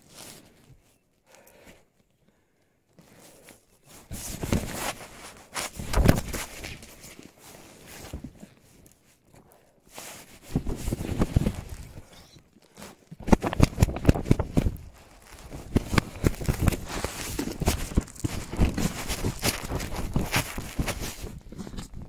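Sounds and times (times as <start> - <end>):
close rustling and scraping: 0.0 - 1.0, 2.9 - 22.0.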